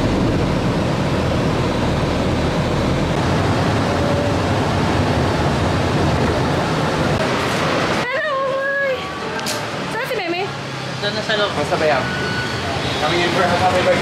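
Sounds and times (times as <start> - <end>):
car driving in traffic: 0.0 - 14.0.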